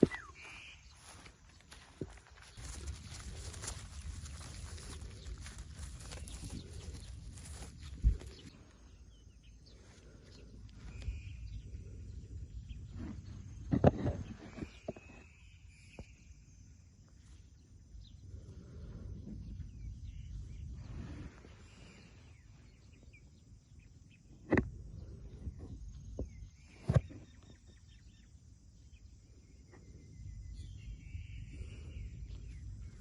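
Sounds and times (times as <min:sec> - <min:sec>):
faint bird chirps: 0:00.0 - 0:33.0.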